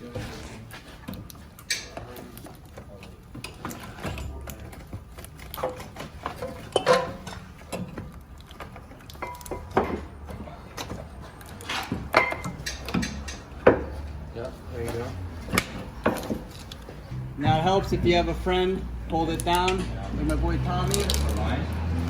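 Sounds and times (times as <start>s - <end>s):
metal clanks and knocks: 0.0s - 22.0s.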